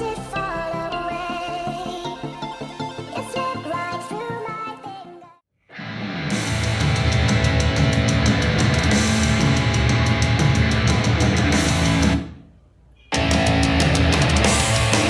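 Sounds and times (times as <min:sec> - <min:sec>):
heavy rock music: 0:00.0 - 0:04.0, 0:05.7 - 0:12.4, 0:13.1 - 0:15.0.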